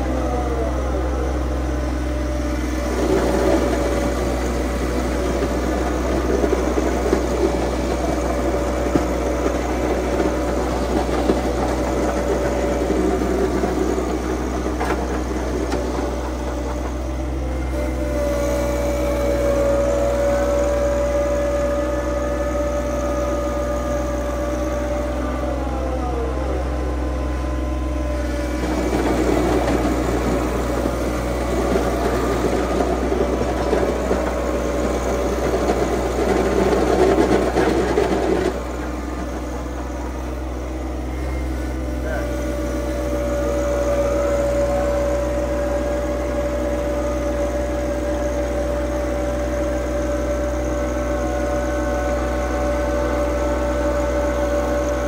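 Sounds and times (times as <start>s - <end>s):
steady whine: 0.0s - 55.0s
tractor engine running: 0.0s - 55.0s
rough grinding noise: 2.3s - 25.8s, 27.6s - 55.0s.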